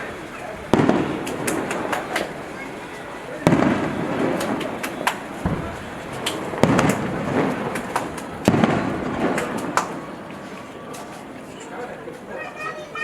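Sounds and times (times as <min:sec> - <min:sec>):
fireworks booming with echo: 0:00.0 - 0:12.3
fireworks cracking: 0:00.0 - 0:13.0.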